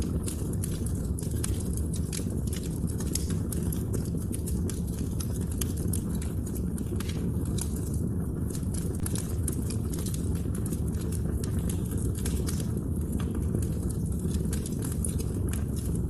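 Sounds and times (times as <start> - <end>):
low rumble of burning: 0.0 - 16.0
wood fire crackling: 0.0 - 16.0.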